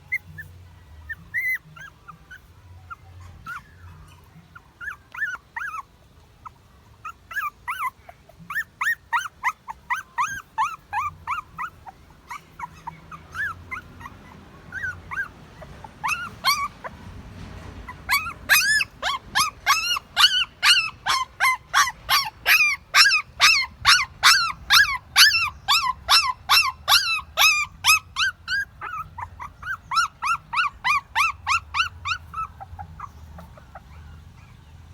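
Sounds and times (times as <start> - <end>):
puppies whimpering and squealing: 0.0 - 34.9.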